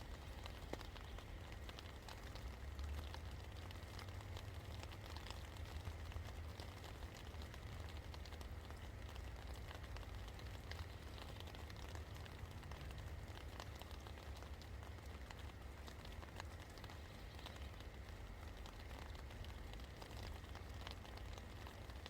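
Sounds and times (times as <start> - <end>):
raindrops tapping on a surface: 0.0 - 22.0
steady rain falling: 0.0 - 22.0.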